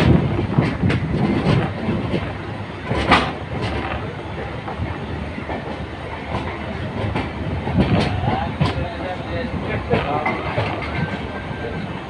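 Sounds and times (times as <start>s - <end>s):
train rumble: 0.0s - 12.0s
wheels clacking over rail joints: 0.0s - 12.0s.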